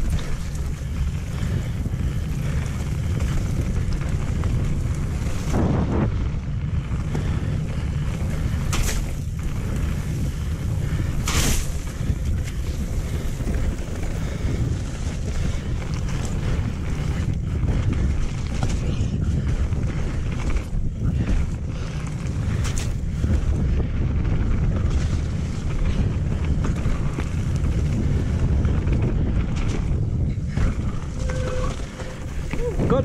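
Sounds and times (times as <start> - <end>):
tyres rolling on wet gravel: 0.0 - 6.0, 7.0 - 33.0
wind buffeting microphone: 0.0 - 33.0.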